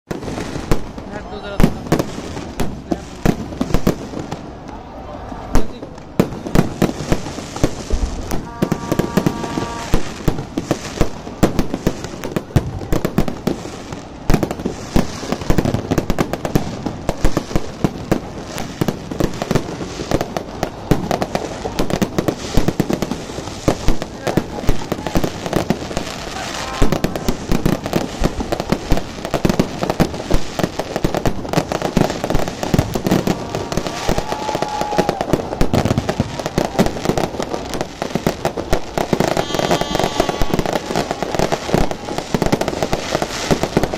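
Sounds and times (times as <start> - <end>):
fireworks bangs and crackling: 0.1 - 43.9.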